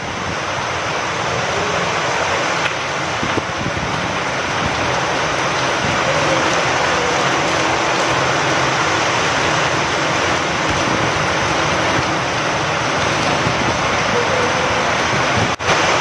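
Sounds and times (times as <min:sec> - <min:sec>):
rain falling: 0:00.0 - 0:16.0
wind: 0:00.0 - 0:16.0.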